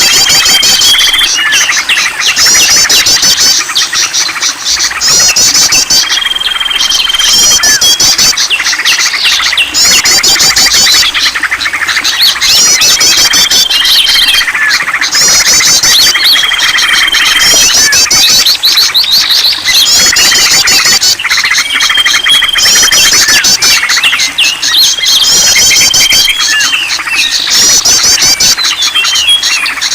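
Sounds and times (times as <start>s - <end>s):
songbirds chirping: 0.0s - 29.9s.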